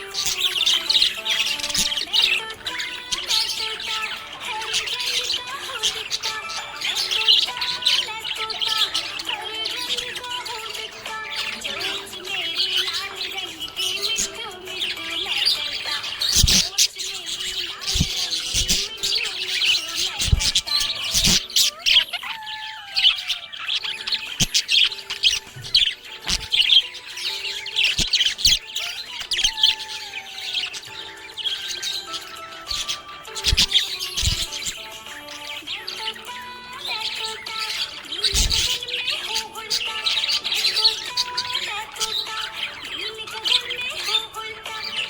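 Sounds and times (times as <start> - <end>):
budgerigar chirping and warbling: 0.0 - 45.0.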